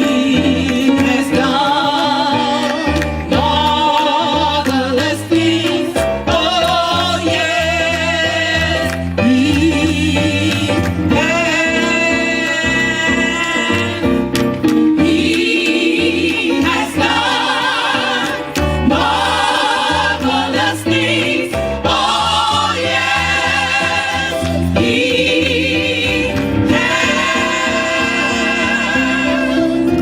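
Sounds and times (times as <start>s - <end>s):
bass line: 0.0s - 30.0s
gospel choir singing: 0.0s - 30.0s.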